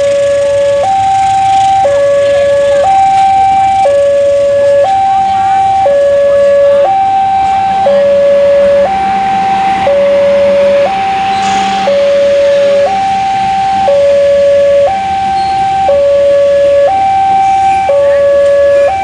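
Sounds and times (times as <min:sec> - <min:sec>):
steady background noise: 0:00.0 - 0:19.0
two-tone hi-lo siren: 0:00.0 - 0:19.0.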